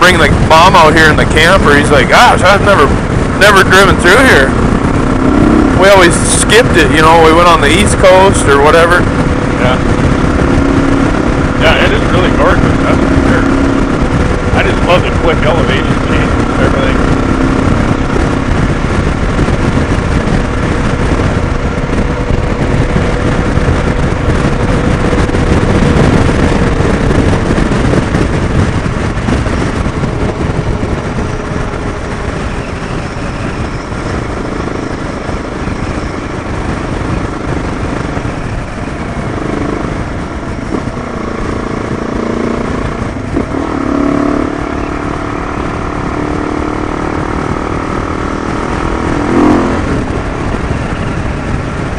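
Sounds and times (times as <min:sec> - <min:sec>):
motorcycle engine running: 0:00.0 - 0:51.9
wind rush: 0:00.0 - 0:51.9.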